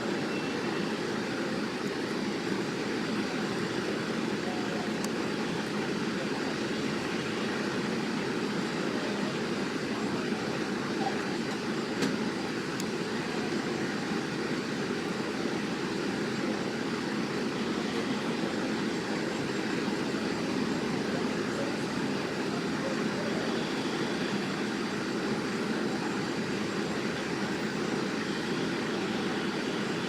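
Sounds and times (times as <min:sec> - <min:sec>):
traffic engines droning: 0:00.0 - 0:30.0.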